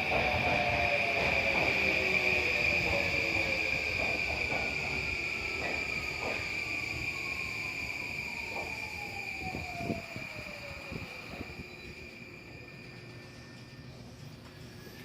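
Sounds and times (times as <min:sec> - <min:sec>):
electric train braking: 0:00.0 - 0:15.0.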